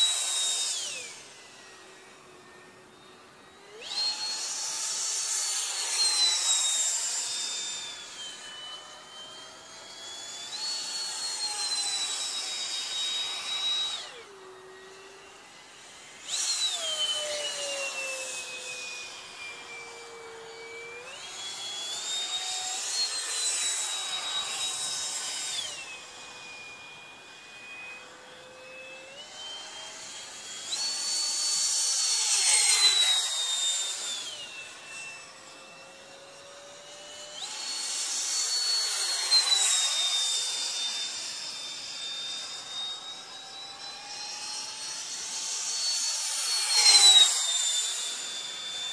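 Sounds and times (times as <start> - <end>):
model jet fan whine: 0.0 - 48.9.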